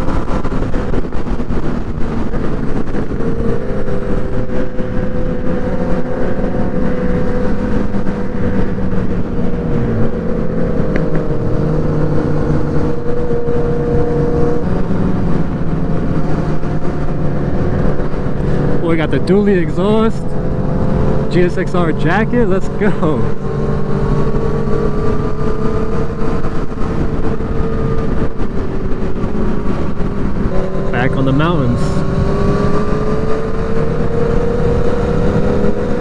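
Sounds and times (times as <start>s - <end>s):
motorcycle engine cruising: 0.0s - 36.0s
wind rushing over microphone: 0.0s - 36.0s.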